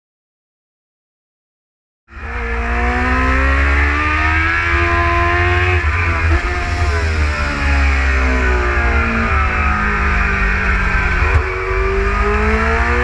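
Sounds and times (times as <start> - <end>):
motorcycle engine revving high: 2.1 - 13.0.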